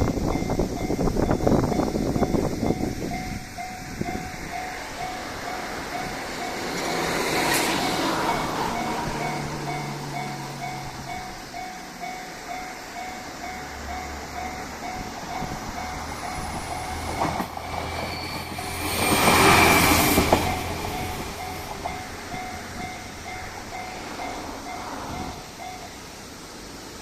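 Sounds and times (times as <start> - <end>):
level-crossing bell ringing: 0.0 - 26.2
diesel railcar engine drone: 0.0 - 27.0
railcar rushing by: 0.0 - 27.0.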